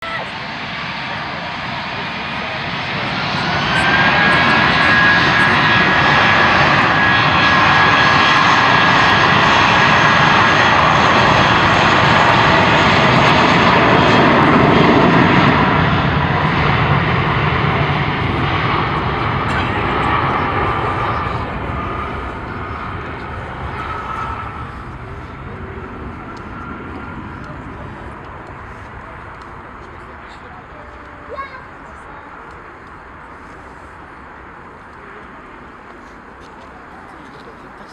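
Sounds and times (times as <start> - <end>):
high engine whine: 0.0 - 37.9
jet airliner passing: 0.0 - 37.9.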